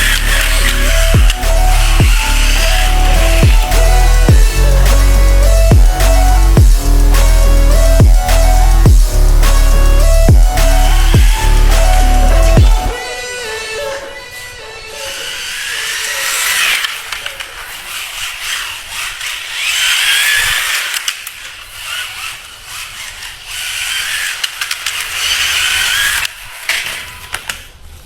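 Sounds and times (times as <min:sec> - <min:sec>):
wheels scraping and clicking: 0:00.0 - 0:13.0, 0:14.8 - 0:28.0
toy truck motor whining: 0:00.0 - 0:28.0.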